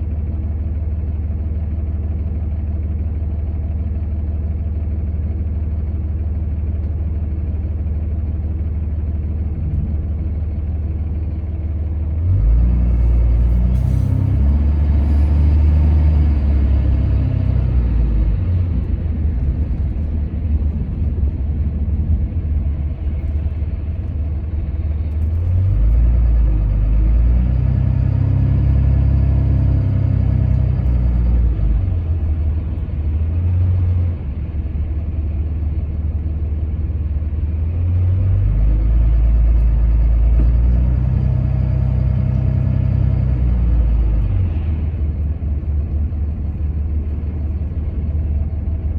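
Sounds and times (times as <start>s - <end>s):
vehicle engine rumble: 0.0s - 48.9s.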